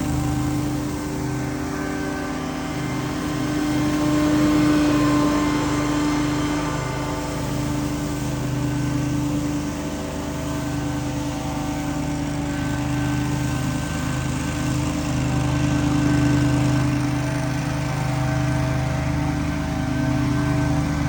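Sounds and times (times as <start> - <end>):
small engine running steadily: 0.0 - 21.0.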